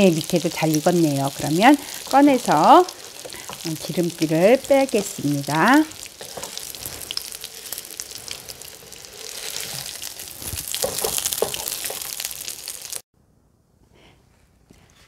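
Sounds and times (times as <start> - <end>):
oil sizzling in frying pan: 0.0 - 13.0.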